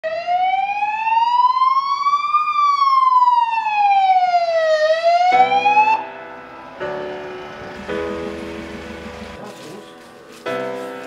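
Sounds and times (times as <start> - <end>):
ambulance siren wailing: 0.0 - 9.5.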